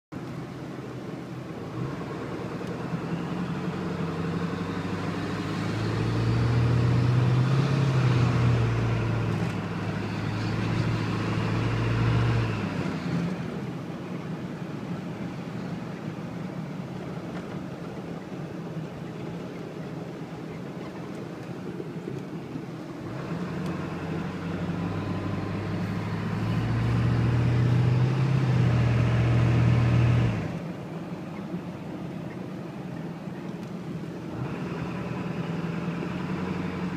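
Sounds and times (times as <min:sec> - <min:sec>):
diesel engine revving and idling: 0:00.2 - 0:31.2, 0:31.8 - 0:36.9.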